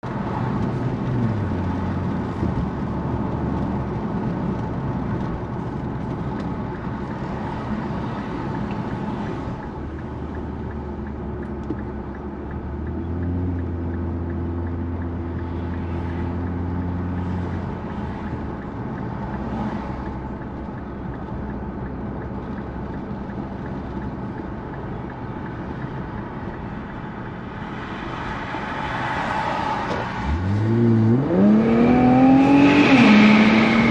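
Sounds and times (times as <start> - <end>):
car engine cruising: 0.0 - 33.9
road and wind noise: 0.0 - 33.9.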